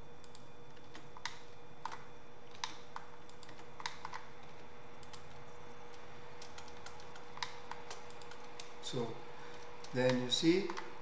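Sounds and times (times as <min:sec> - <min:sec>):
faint hum with thin tone: 0:00.0 - 0:11.0
keyboard and mouse clicks: 0:00.2 - 0:08.8, 0:09.5 - 0:11.0.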